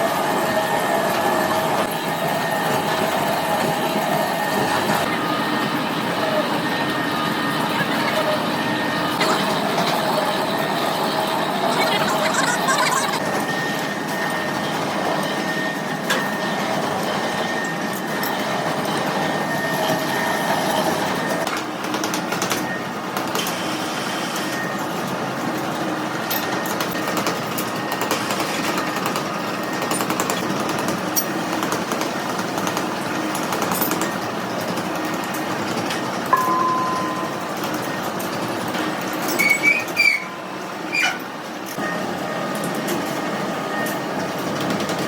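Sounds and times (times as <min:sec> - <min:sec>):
heavy machinery running: 0:00.0 - 0:45.0.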